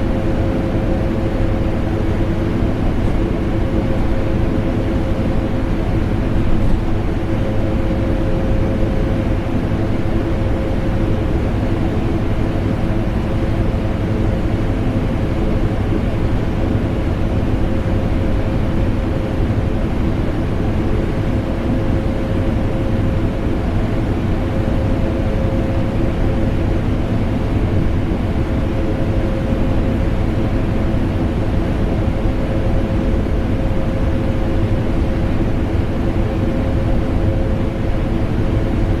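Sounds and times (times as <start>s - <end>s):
air conditioner running: 0.0s - 39.0s.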